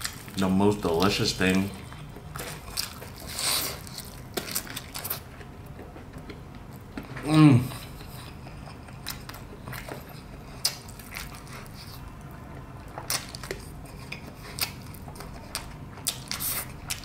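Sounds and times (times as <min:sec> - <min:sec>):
crunching fried chicken: 0:00.0 - 0:17.0
low steady hum: 0:00.0 - 0:17.0.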